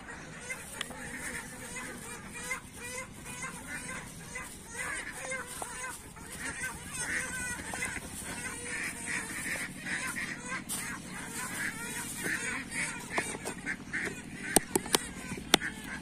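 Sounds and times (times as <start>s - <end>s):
waterfowl calling: 0.0s - 16.0s.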